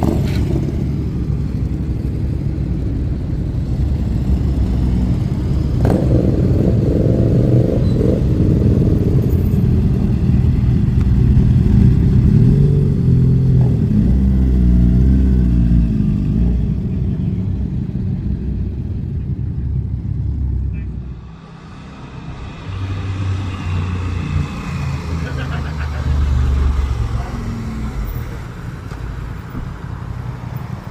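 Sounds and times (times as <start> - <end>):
motorcycle engines revving: 0.0 - 30.9.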